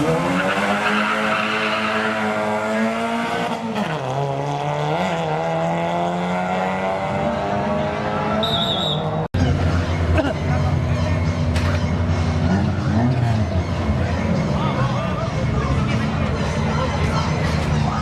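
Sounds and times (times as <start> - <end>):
racing car engine at high revs: 0.0 - 18.0.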